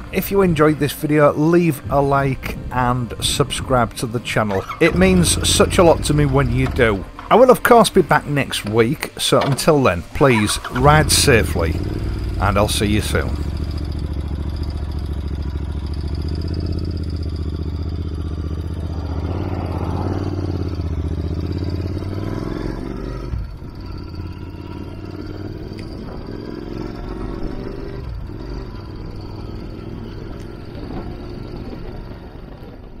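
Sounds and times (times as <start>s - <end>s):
motorcycle engine revving: 2.5s - 8.0s, 10.4s - 33.0s.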